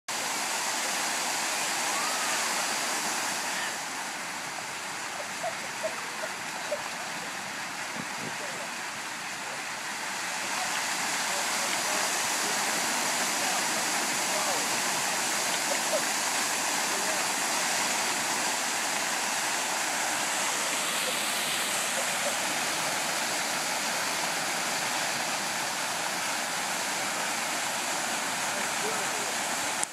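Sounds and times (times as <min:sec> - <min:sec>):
fountain water splashing: 0:00.1 - 0:29.9.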